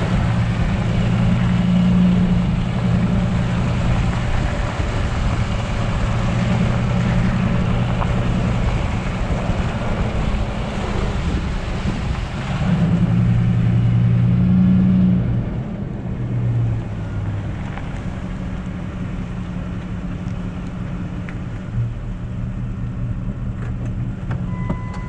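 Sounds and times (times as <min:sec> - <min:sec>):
pickup engine accelerating: 0:00.0 - 0:25.0
tyre and road noise: 0:00.0 - 0:25.0.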